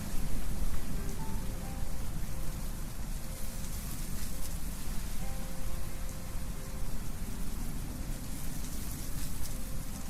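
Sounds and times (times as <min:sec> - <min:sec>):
wind rustling leaves: 0:00.0 - 0:10.0.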